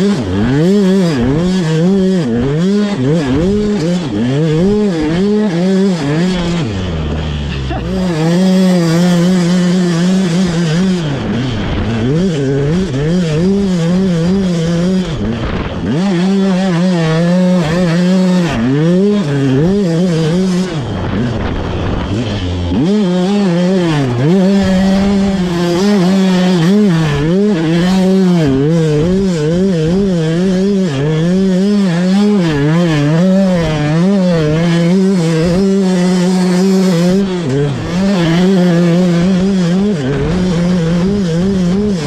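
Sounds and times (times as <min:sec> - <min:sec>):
motocross engine revving: 0:00.0 - 0:42.0.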